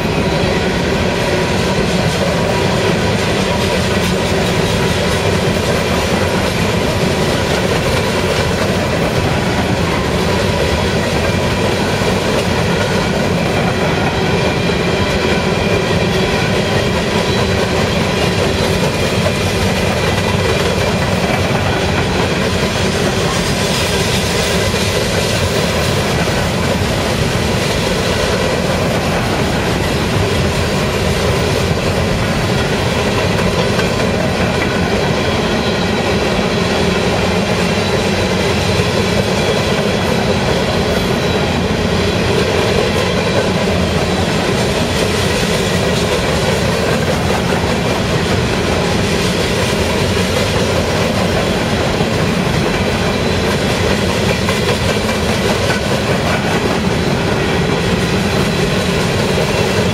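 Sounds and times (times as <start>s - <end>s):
steel wheels clattering on rails: 0.0s - 59.9s.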